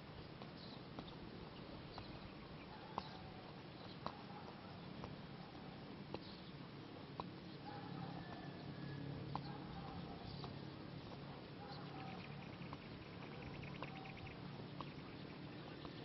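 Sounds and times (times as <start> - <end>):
distant bird calls: 0.0 - 16.0
steady low hum: 0.0 - 16.0
bird chirping: 0.5 - 6.7, 7.4 - 16.0.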